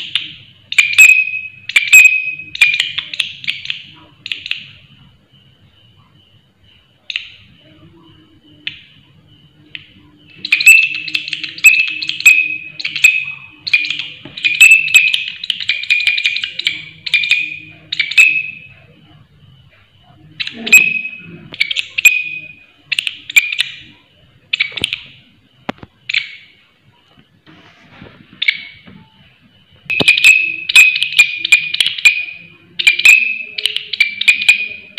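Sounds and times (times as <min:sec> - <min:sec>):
faint steady high tone: 0:00.0 - 0:34.9.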